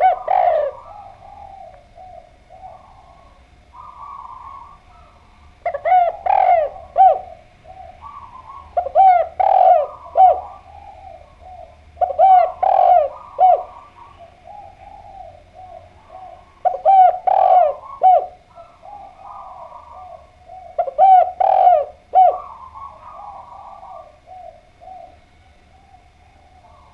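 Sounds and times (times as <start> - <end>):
dove cooing: 0.0 - 26.9.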